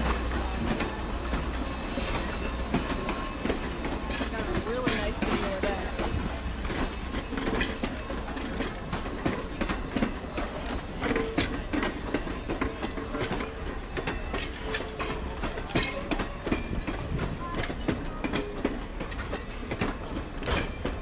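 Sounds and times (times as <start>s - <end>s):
railroad wheels clicking over joints: 0.0s - 21.0s.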